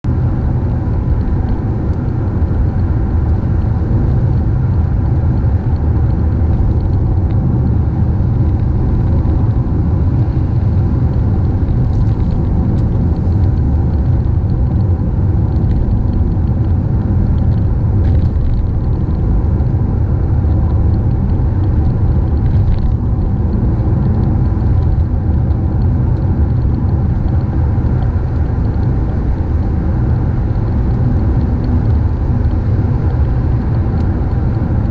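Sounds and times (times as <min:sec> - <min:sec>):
car driving on wet road: 0:00.1 - 0:34.9.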